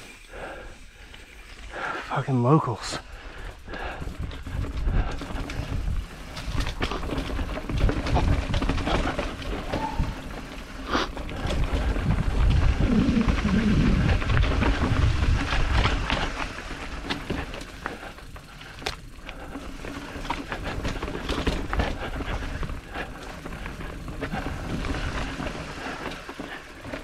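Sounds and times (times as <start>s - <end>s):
heavy wind rumble: 3.0s - 26.0s.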